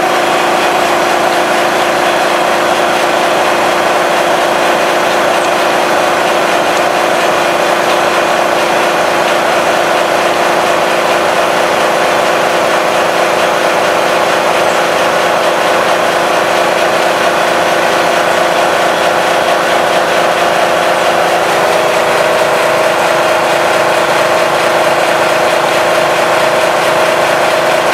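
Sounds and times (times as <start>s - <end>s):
electric air compressor running: 0.0s - 27.9s
generator running: 0.0s - 27.9s.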